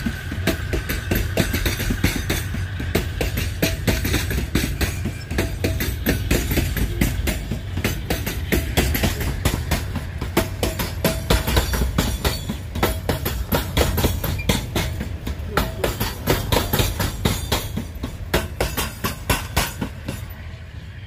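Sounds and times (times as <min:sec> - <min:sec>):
freight train rumbling past: 0:00.0 - 0:21.0
steel wheels clattering on rails: 0:00.0 - 0:21.0.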